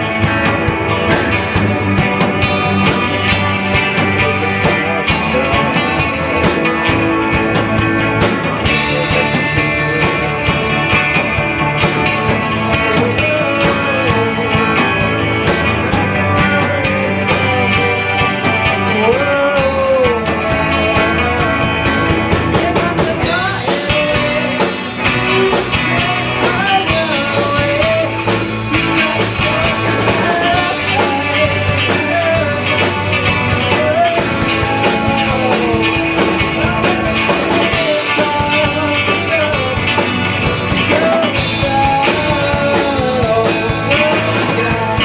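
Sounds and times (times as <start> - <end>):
drum kit steady beat: 0.0 - 45.0
person singing lead vocal: 0.0 - 45.0
rock band playing: 0.0 - 45.0.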